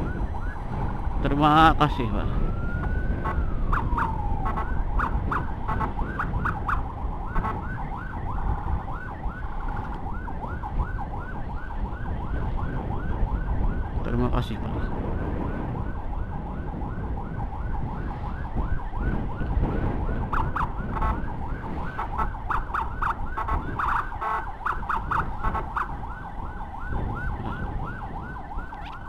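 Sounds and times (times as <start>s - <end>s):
siren fast yelp: 0.0s - 14.2s, 15.2s - 29.0s
choppy siren pattern: 0.0s - 29.0s
road and wind rumble: 0.0s - 29.0s.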